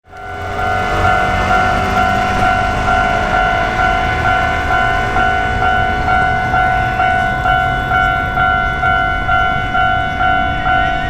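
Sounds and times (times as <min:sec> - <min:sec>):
level crossing warning bell: 0:00.1 - 0:11.0.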